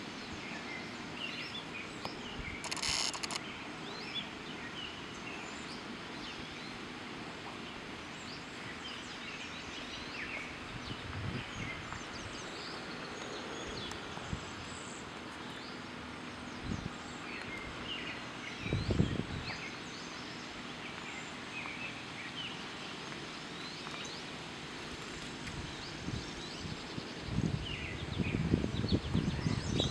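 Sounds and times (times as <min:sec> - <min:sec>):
steady background hiss: 0:00.0 - 0:29.9
birds chirping: 0:00.1 - 0:29.9.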